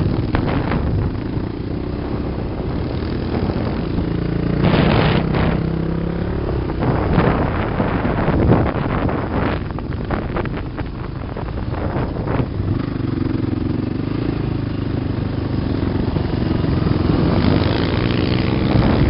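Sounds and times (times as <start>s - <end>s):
off-road vehicle engine: 0.0s - 19.0s
wind on microphone: 0.0s - 19.0s.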